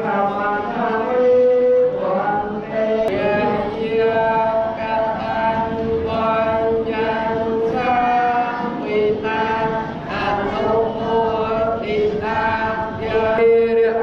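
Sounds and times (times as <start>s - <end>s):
group chanting in unison: 0.0s - 14.0s.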